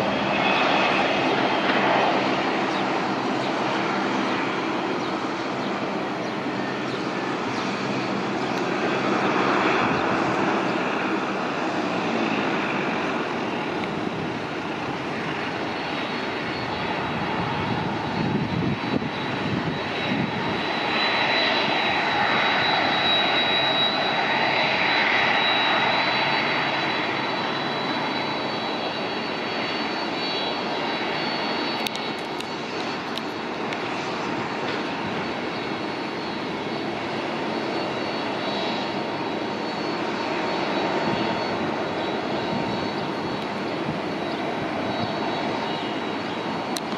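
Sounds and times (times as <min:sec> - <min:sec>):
jet engine rumble: 0:00.0 - 0:46.9.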